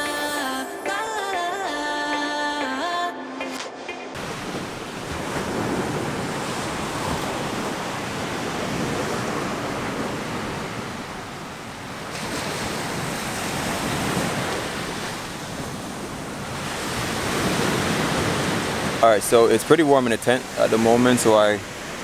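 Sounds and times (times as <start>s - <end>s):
ocean surf breaking on beach: 3.5s - 22.0s.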